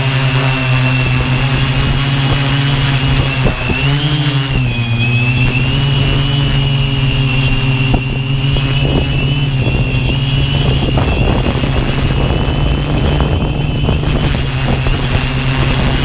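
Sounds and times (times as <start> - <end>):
drone motors humming and whining: 0.0 - 16.0
wind buffeting microphone: 0.0 - 16.0.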